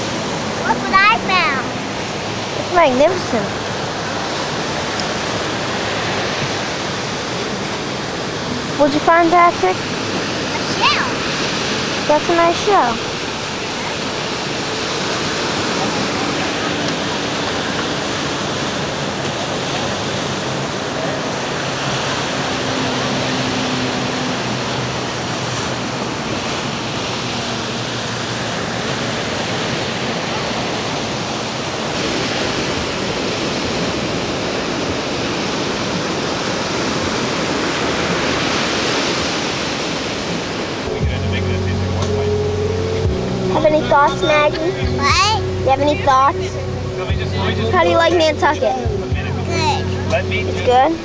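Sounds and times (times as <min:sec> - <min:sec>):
ocean surf breaking on beach: 0:00.0 - 0:41.0.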